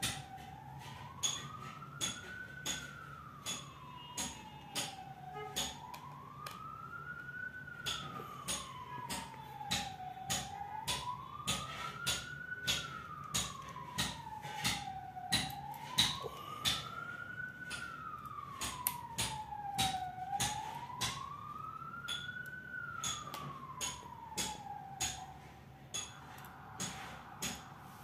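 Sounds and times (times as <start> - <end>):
siren wailing: 0.0 - 28.0.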